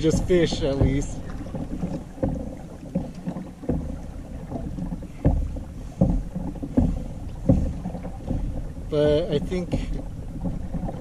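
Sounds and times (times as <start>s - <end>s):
low knocks on hull: 0.0s - 11.0s
water slapping against hull: 0.0s - 11.0s.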